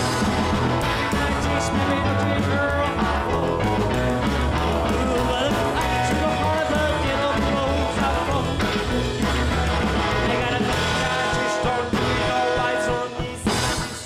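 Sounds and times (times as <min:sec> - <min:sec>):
rock song with singing: 0:00.0 - 0:14.0.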